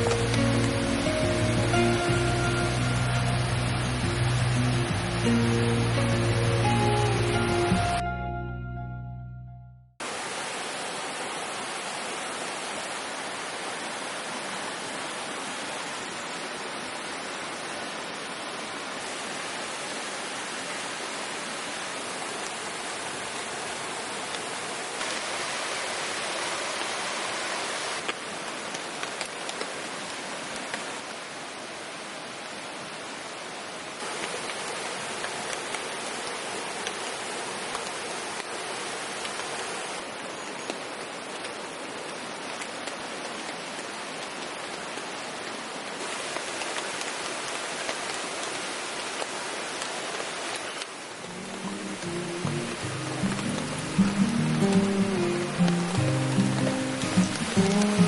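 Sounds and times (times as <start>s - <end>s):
steady rain hiss: 0.0s - 8.4s, 10.0s - 58.0s.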